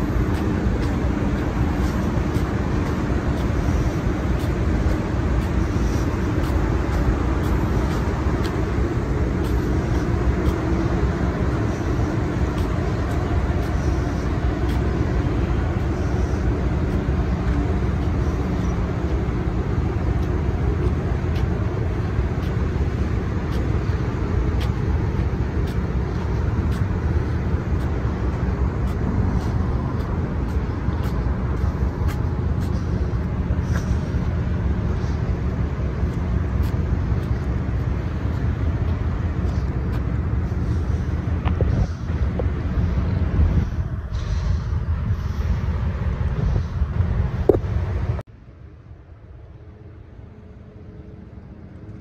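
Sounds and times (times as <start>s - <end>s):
ship machinery rumble and hum: 0.0s - 52.0s.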